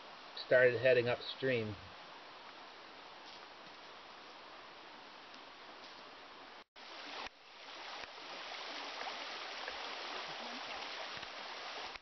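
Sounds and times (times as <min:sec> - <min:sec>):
brook water running: 0:00.0 - 0:04.9, 0:06.8 - 0:12.0.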